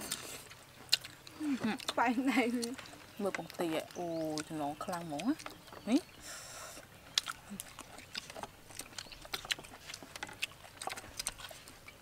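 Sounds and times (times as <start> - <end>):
chewing and mouth noises: 0.0 - 12.0.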